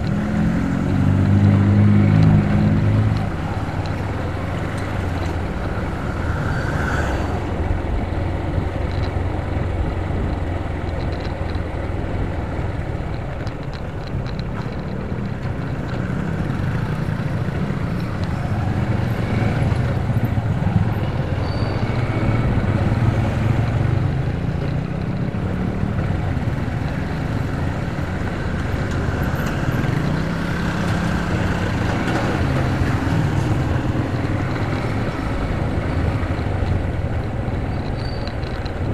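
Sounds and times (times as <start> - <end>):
motorcycle engine rumbling: 0.0 - 38.9
road and wind noise: 0.0 - 38.9.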